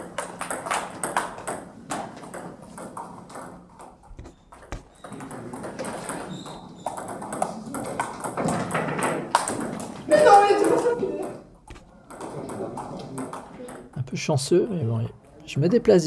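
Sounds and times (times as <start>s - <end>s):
table tennis ball clicking: 0.0s - 14.0s.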